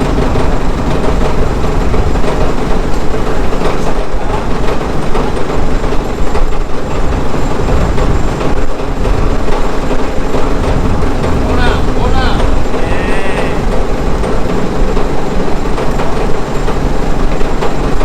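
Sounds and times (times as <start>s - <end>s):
loud engine rattling: 0.0s - 18.0s.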